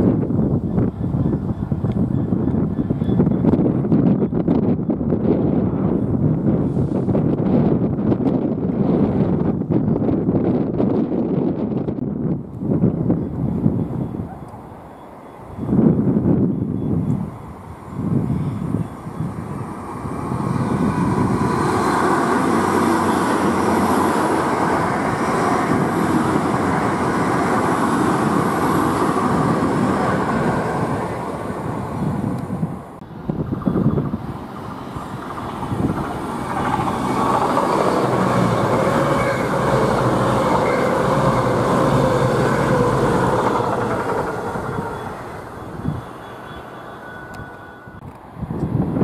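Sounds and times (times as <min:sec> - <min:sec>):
diesel train passing loudly: 0:00.0 - 0:49.0
train wheels rumbling on rail: 0:00.0 - 0:49.0.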